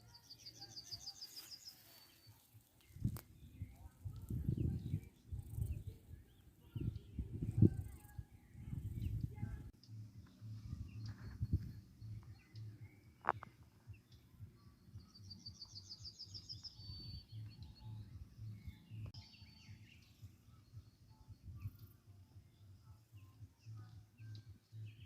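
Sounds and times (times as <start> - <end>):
songbird trilling and chirping: 0.0 - 25.0.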